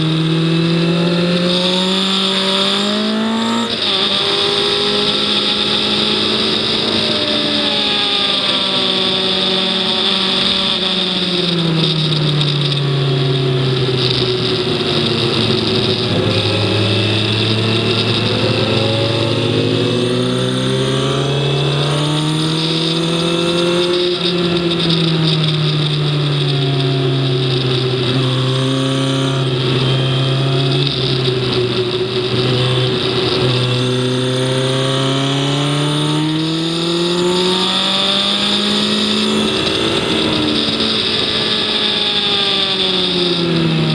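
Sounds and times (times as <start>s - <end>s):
racing engine revving: 0.0s - 43.9s.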